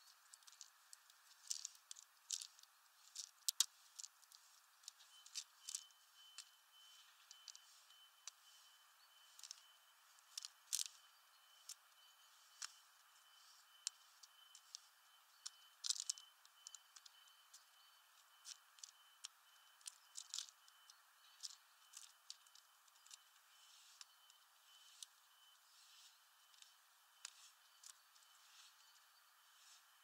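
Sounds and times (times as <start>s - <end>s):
birds pecking seeds: 0.0s - 30.0s
faint steady high tone: 0.0s - 30.0s.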